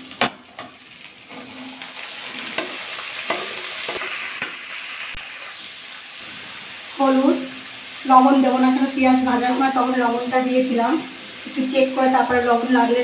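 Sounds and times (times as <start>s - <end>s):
greens sizzling in hot oil: 0.0s - 13.0s.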